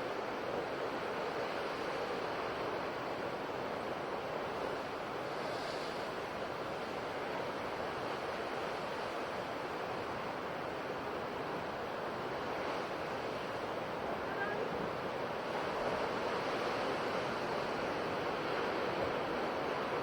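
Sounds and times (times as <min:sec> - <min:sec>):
ocean surf breaking on shore: 0:00.0 - 0:20.0.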